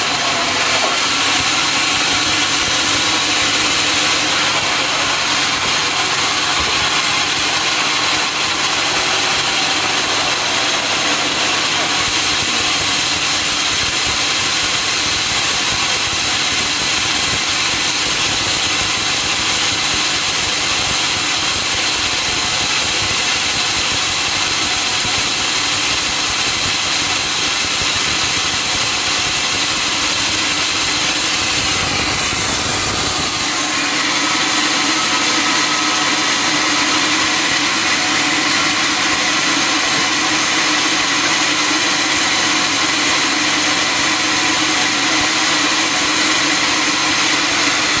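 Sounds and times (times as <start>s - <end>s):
sawmill machinery running: 0.0s - 48.0s.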